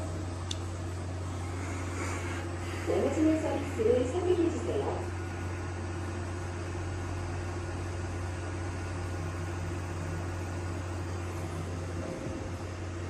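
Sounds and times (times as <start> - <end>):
laundromat machinery humming: 0.0 - 13.0.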